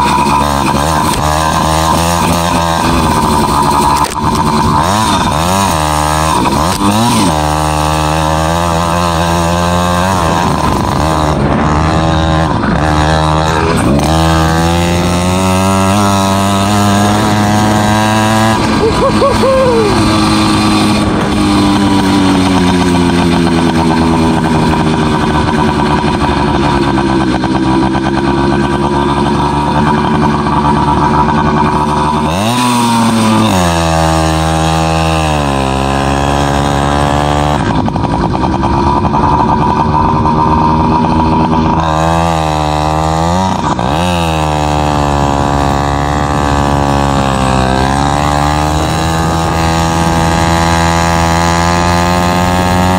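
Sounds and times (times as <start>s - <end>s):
two-stroke bicycle engine running: 0.0s - 52.9s.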